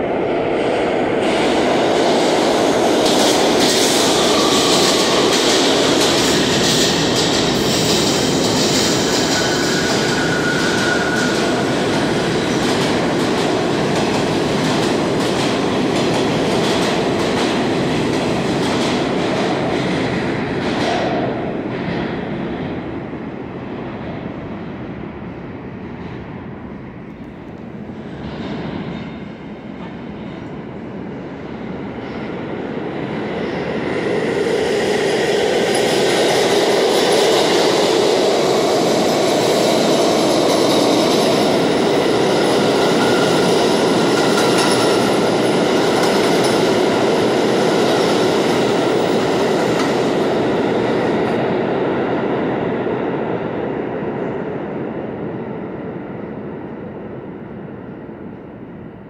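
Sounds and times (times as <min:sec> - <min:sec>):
subway train passing through: 0:00.0 - 0:59.0.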